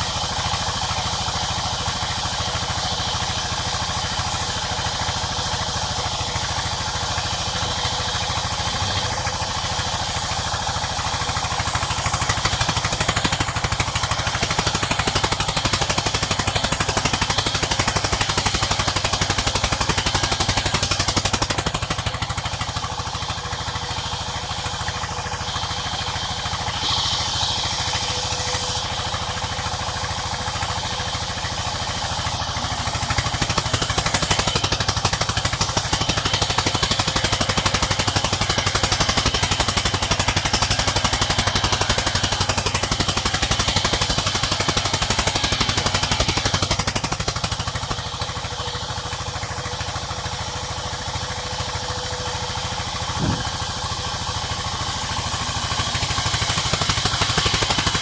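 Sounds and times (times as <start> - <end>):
saw cutting through wood: 0.0 - 58.0
sawmill machinery rattling: 0.0 - 58.0.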